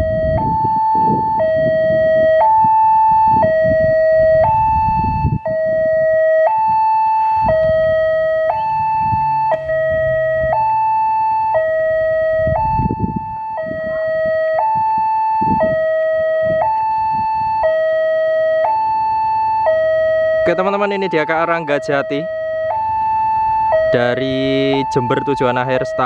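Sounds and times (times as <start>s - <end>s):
two-tone crossing alarm: 0.0s - 26.0s.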